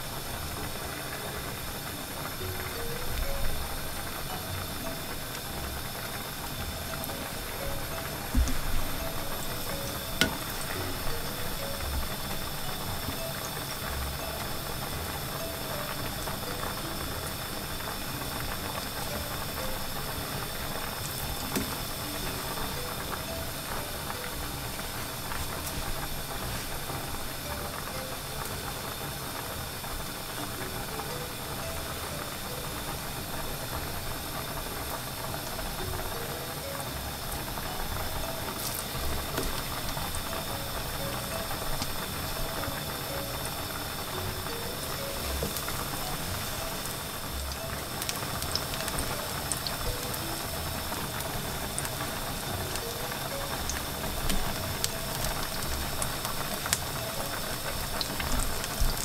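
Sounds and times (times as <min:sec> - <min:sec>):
plantain sizzling in oil: 0:00.0 - 0:59.0.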